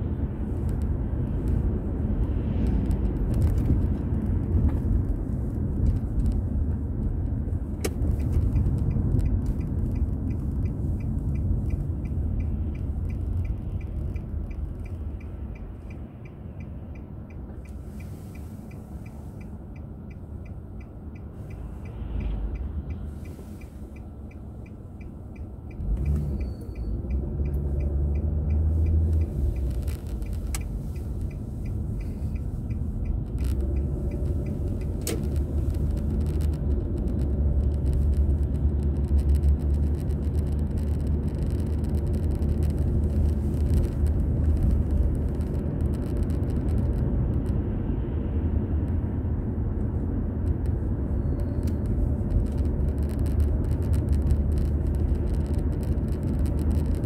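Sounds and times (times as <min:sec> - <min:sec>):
car road and engine rumble: 0:00.0 - 0:57.0
turn signal ticking: 0:00.0 - 0:57.0.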